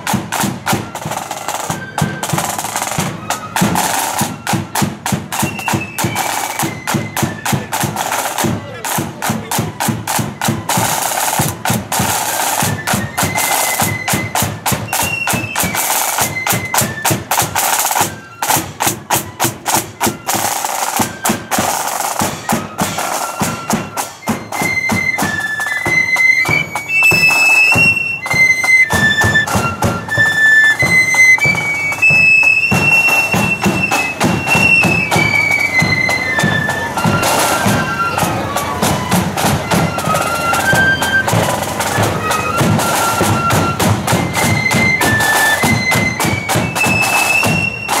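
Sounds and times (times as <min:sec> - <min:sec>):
flute melody: 0:00.0 - 0:48.0
snare and bass drums march beat: 0:00.0 - 0:48.0.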